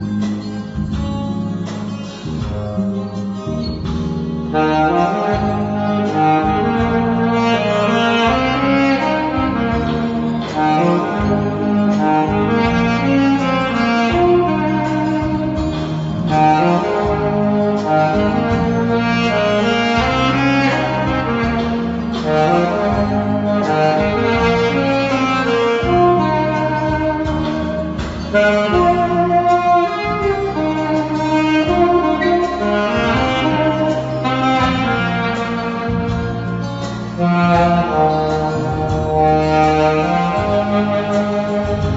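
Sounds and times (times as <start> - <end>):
low bass line: 0.0 - 41.9
saxophone melody: 0.0 - 41.9.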